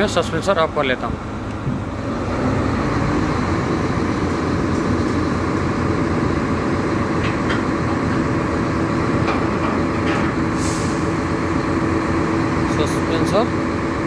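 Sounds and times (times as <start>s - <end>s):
crane diesel engine droning: 0.0s - 14.0s
hydraulics humming: 0.0s - 14.0s.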